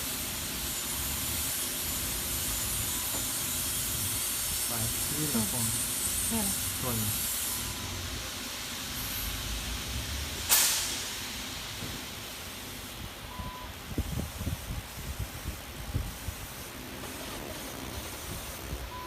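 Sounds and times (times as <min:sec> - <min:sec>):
laser machine hissing: 0:00.0 - 0:13.0, 0:14.0 - 0:19.0.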